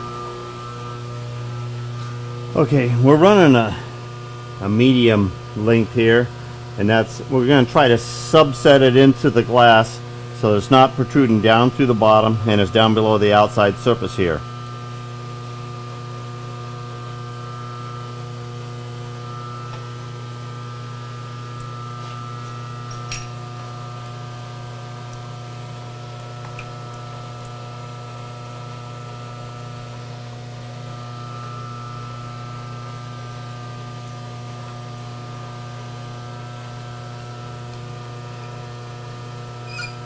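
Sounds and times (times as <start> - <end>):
electric motor humming: 0.0 - 40.0.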